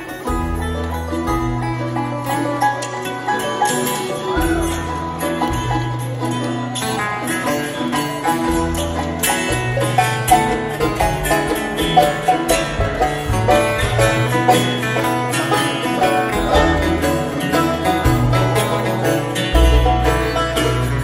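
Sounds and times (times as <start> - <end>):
live bluegrass band playing: 0.0 - 21.0
picked banjo: 0.0 - 21.0
upright bass line: 0.0 - 21.0.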